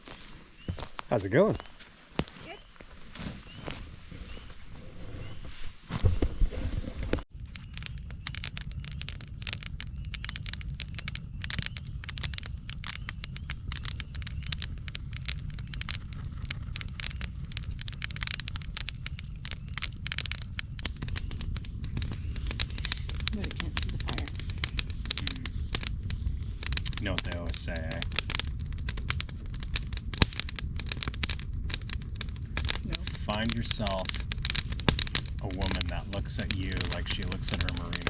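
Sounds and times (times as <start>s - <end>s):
campfire crackling and popping: 7.2s - 38.0s
low steady rumble: 7.4s - 38.0s.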